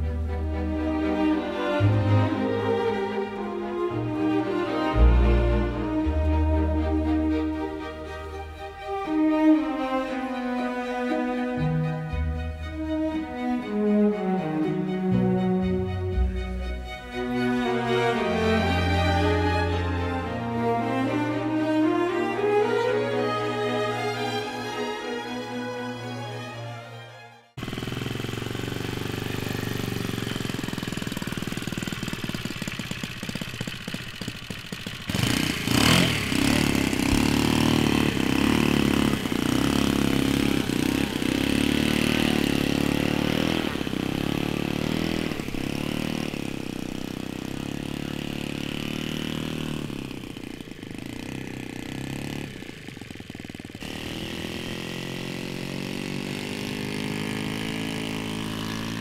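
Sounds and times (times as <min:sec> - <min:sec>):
model plane engine running: 0:00.0 - 0:25.9, 0:27.6 - 0:59.0.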